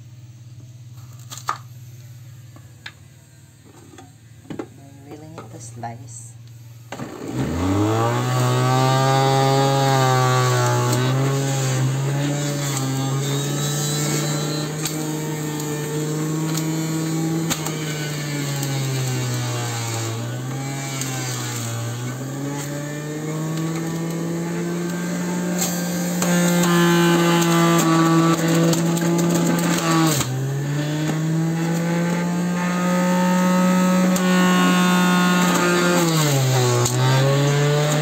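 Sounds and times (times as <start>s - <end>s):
juicer motor whining: 6.5s - 38.0s.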